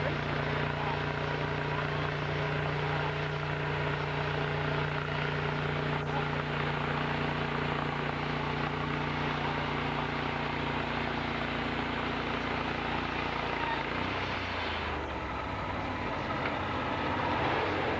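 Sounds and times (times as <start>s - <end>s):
machinery droning steadily: 0.0s - 17.9s.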